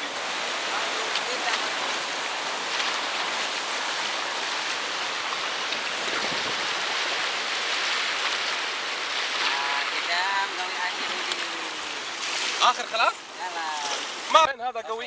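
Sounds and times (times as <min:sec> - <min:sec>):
river rapids rushing: 0:00.0 - 0:14.5.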